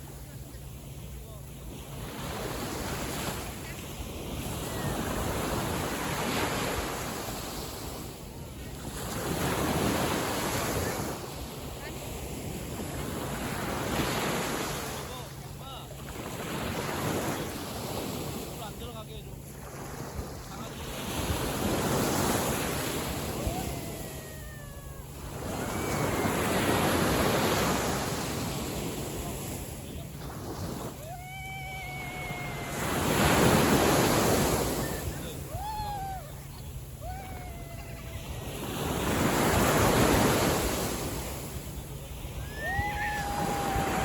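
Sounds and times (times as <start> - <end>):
sea waves washing: 0.0 - 44.0.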